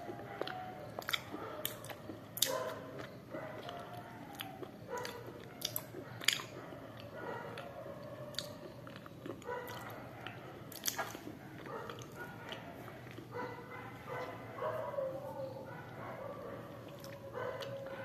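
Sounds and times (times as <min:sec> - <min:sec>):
close chewing and crunching: 0:00.0 - 0:18.0.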